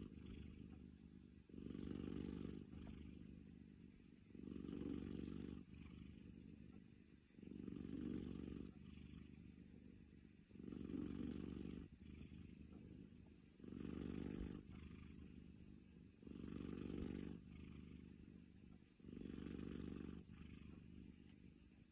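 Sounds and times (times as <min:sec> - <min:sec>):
cat snoring: 0:00.0 - 0:21.7.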